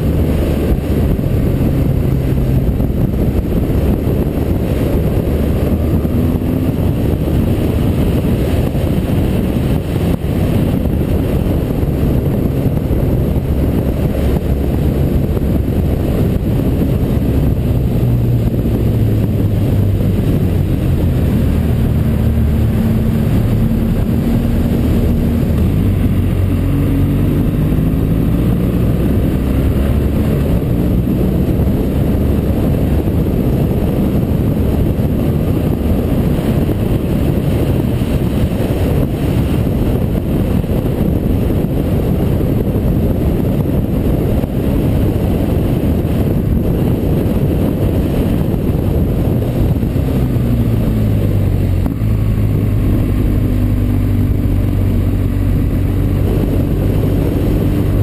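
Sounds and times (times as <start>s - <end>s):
motorcycle engine running: 0.0s - 58.0s
wind noise: 0.0s - 58.0s.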